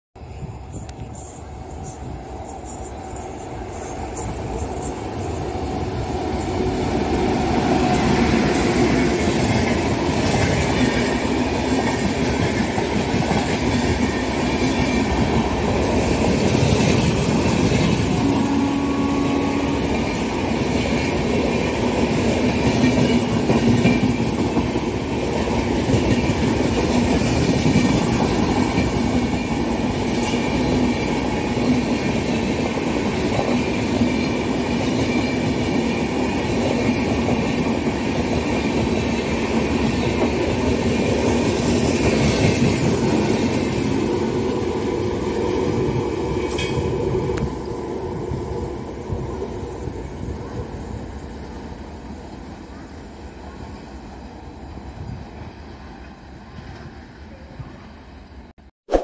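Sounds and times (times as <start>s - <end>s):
train wheels rumbling on track: 0.2s - 58.5s.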